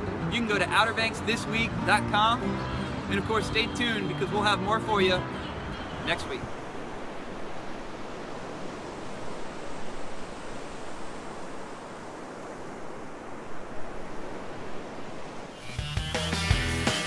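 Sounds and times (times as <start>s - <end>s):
ocean surf on sandy beach: 0.0s - 17.0s.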